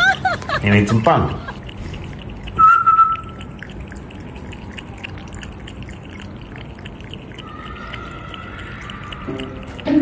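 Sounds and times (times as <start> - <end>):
water drips and splashes: 0.0 - 10.0
water trickling: 0.0 - 10.0.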